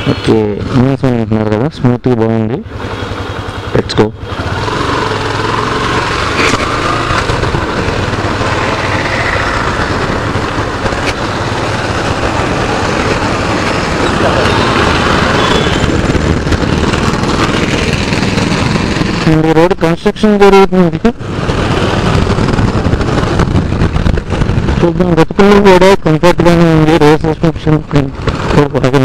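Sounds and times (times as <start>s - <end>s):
motorcycle engine running: 2.2s - 29.0s
wind rushing over microphone: 4.2s - 29.0s.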